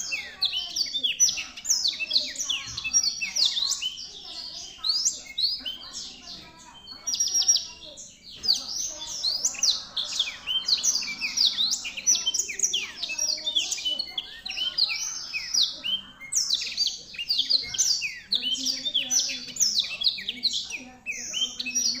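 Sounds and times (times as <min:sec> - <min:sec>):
canary singing chirps and trills: 0:00.0 - 0:22.0.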